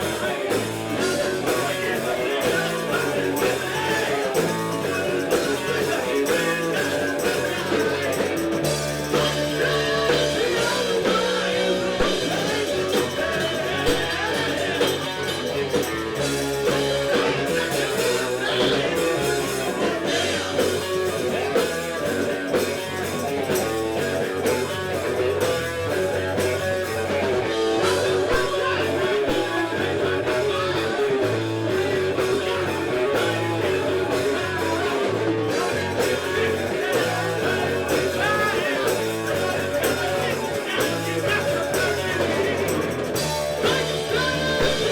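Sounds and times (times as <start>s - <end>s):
person singing: 0.0s - 23.3s, 26.1s - 44.9s
electric guitar: 0.0s - 44.9s
rock band playing: 0.0s - 44.9s.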